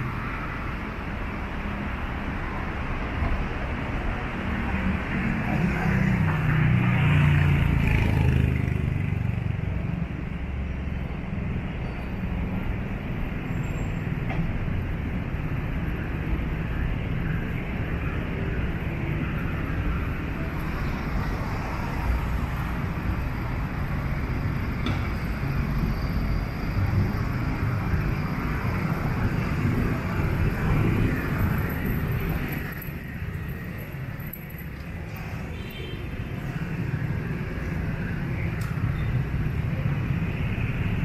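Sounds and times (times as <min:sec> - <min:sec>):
road traffic rumble: 0:00.0 - 0:41.0.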